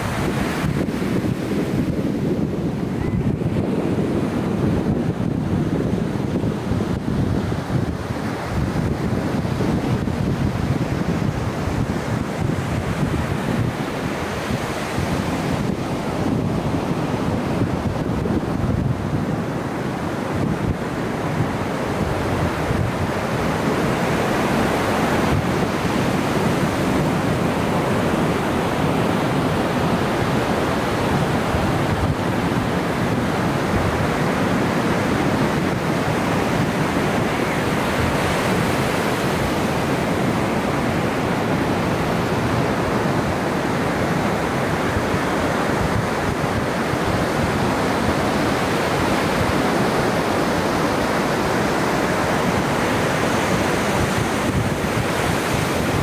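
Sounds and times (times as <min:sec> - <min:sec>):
ocean surf washing ashore: 0:00.0 - 0:56.0.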